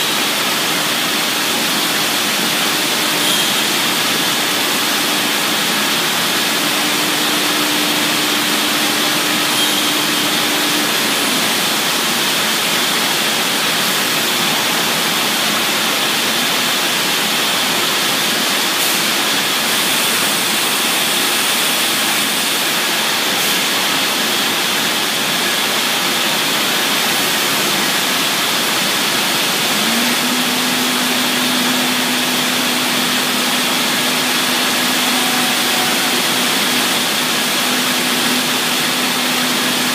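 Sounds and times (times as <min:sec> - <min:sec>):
cnc router rushing noise: 0:00.0 - 0:39.9.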